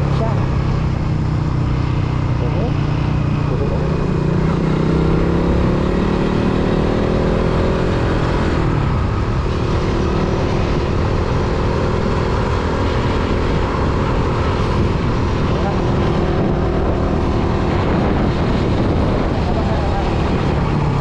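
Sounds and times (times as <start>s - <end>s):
motorcycle engine accelerating: 0.0s - 21.0s
wind rumble on microphone: 0.0s - 21.0s.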